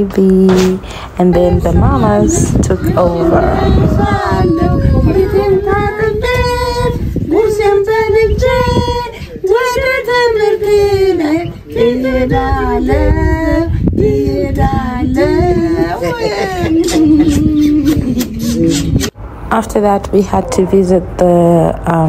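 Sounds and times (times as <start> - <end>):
woman singing slow melody: 0.0 - 18.6.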